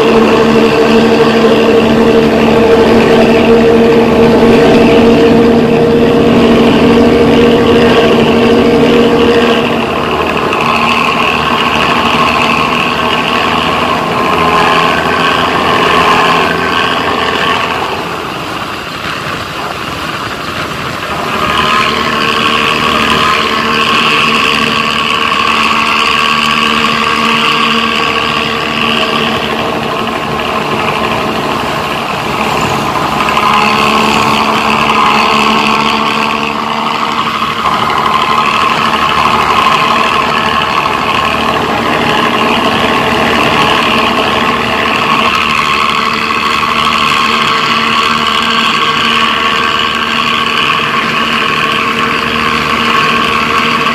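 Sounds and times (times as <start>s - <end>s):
motorcycle engine growling: 0.0s - 53.9s.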